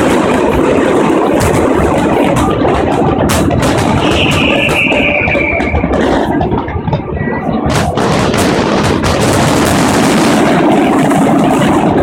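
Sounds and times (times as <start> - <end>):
dense steady fireworks noise: 0.0 - 12.0
fireworks bangs: 0.0 - 12.0.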